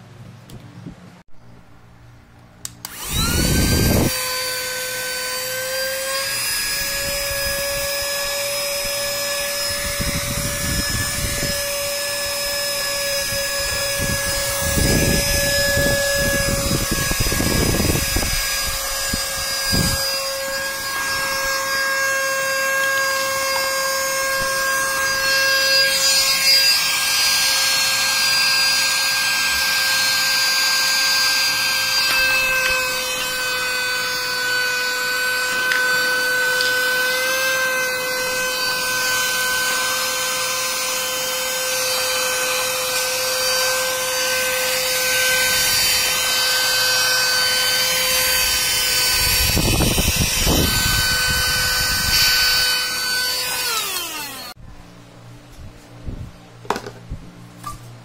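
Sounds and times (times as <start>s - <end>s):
mini vacuum cleaner motor whine: 2.8s - 54.6s.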